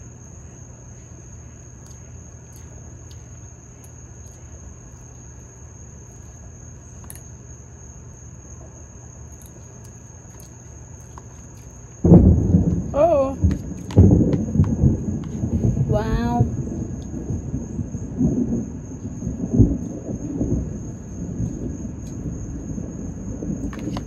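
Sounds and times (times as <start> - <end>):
insects droning: 0.0 - 24.0
low background hum: 0.0 - 24.0.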